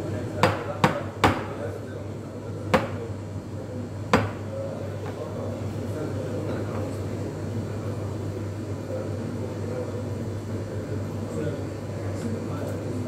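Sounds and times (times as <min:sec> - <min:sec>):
low hum of cafe machinery: 0:00.0 - 0:13.0.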